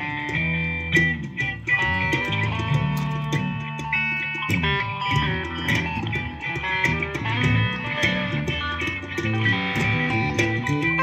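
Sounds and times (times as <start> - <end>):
electric guitar: 0.0 - 11.0
live band playing instrumental: 0.0 - 11.0.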